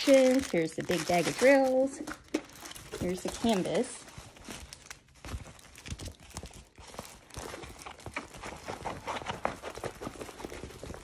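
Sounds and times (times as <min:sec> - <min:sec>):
stiff paper crackling: 0:00.0 - 0:11.0.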